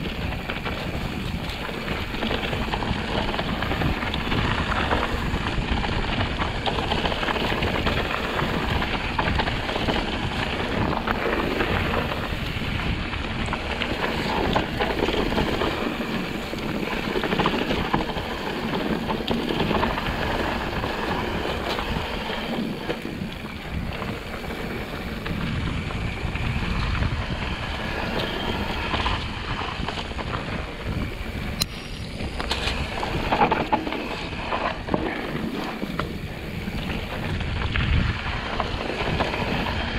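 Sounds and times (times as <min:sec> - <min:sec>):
bike rattles and knocks: 0:00.0 - 0:39.9
tyre noise on dirt: 0:00.0 - 0:39.9
wind buffeting microphone: 0:00.0 - 0:39.9.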